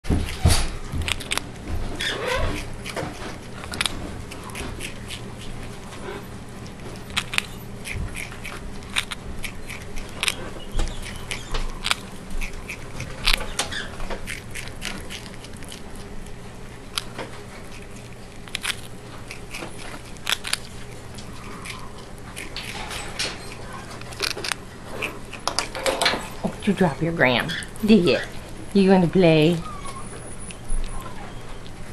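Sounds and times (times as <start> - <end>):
prairie dog gnawing cracker: 0.0 - 31.9.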